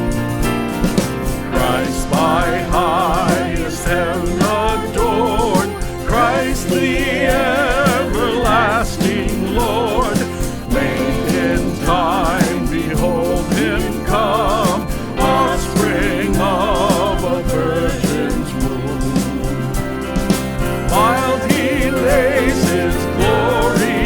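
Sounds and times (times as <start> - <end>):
steady drum beat: 0.0 - 24.0
sustained band accompaniment: 0.0 - 24.0
person singing with vibrato: 1.5 - 20.2, 20.9 - 24.0.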